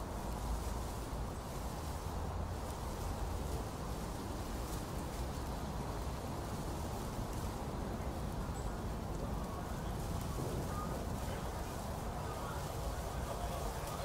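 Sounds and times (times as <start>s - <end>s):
faint distant voices: 0.0s - 14.0s
low background wash: 0.0s - 14.0s.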